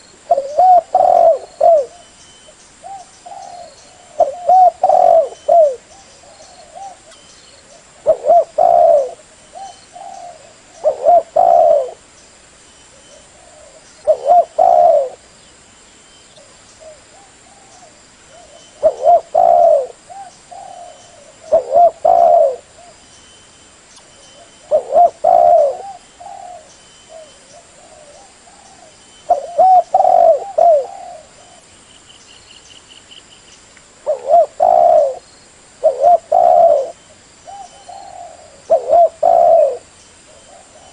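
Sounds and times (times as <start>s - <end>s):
dove cooing: 0.2s - 2.2s, 2.8s - 12.1s, 12.9s - 15.2s, 16.4s - 23.0s, 24.2s - 31.7s, 34.0s - 35.2s, 35.8s - 40.9s.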